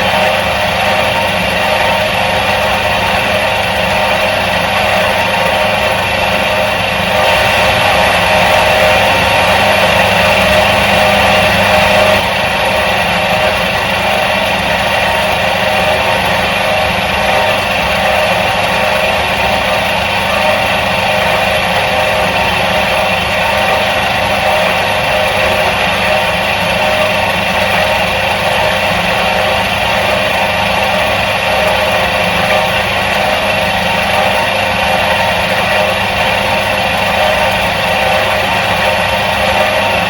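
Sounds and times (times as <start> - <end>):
washing machine motor droning: 0.0 - 40.0.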